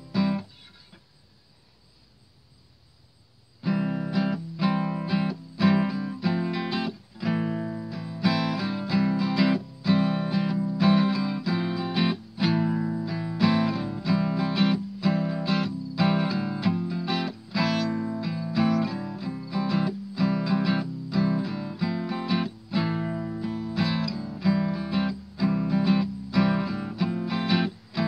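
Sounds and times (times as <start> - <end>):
acoustic guitar strummed: 0.0 - 1.0, 3.6 - 28.0.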